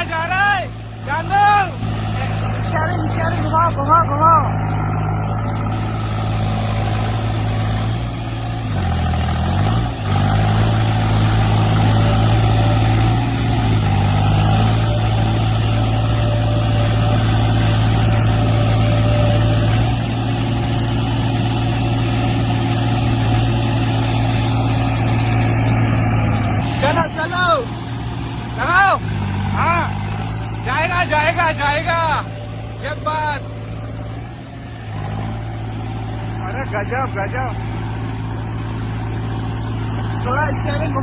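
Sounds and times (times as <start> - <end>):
heavy diesel engine under load: 0.0 - 41.0.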